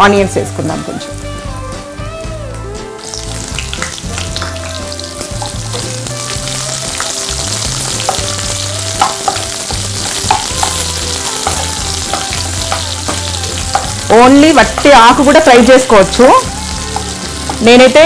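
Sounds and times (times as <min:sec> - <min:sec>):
onions sizzling in hot oil: 0:00.1 - 0:18.0.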